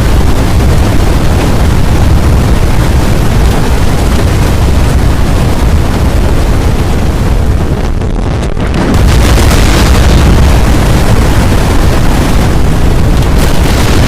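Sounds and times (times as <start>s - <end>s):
strong wind rushing: 0.0s - 14.0s.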